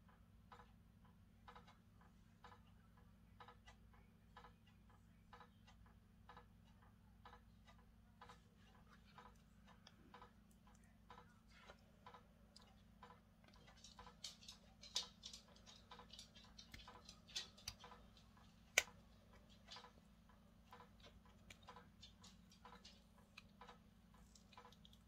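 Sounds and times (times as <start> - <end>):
silicone mold crackling and clicking: 0.0 - 25.0.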